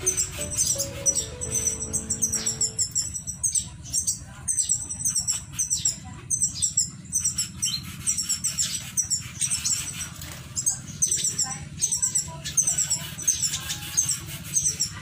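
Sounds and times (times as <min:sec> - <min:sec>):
finches chirping: 0:00.0 - 0:15.0.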